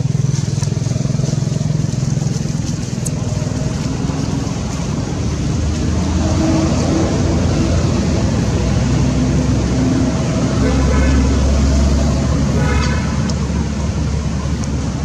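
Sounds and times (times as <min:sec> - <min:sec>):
motor engine running: 0:00.0 - 0:15.0.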